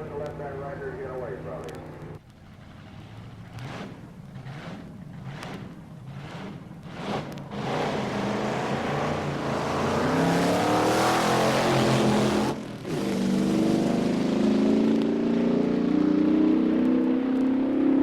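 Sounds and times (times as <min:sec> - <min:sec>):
drag racing engines accelerating: 0:00.0 - 0:18.0.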